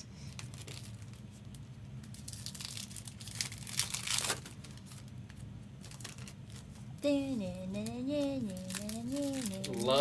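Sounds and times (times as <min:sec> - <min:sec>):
foil wrappers crinkling and tearing: 0:00.3 - 0:06.8, 0:08.4 - 0:10.0.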